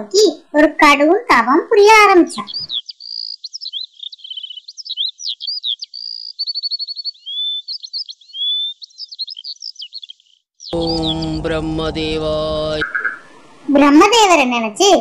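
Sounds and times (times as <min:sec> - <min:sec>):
birds chirping: 0:00.0 - 0:14.7.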